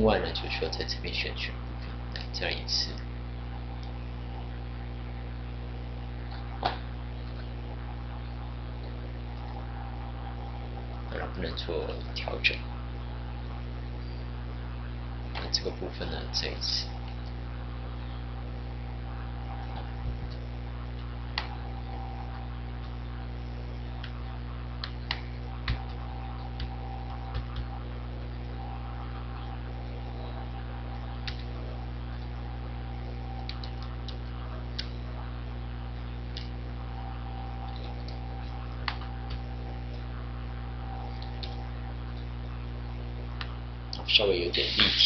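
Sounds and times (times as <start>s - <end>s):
electrical mains hum: 0.0s - 45.0s.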